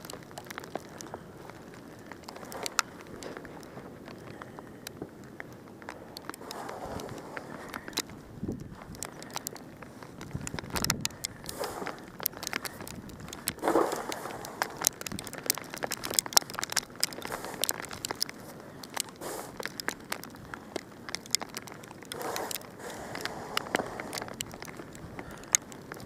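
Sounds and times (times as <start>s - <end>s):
snow crunching: 0.0s - 26.0s.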